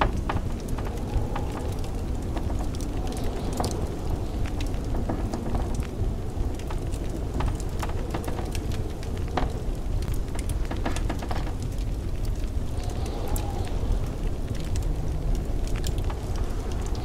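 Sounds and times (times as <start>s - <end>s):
low rumble of blizzard wind: 0.0s - 17.0s
wood fire crackling and popping: 0.0s - 17.0s.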